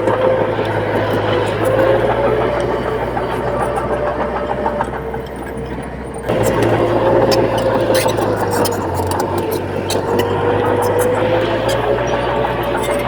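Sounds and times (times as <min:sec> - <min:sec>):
diesel machinery engine hum: 0:00.0 - 0:13.0.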